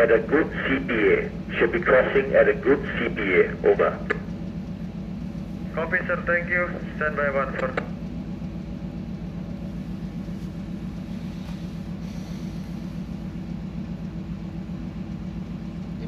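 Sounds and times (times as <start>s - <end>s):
ship engine hum: 0.0s - 16.0s.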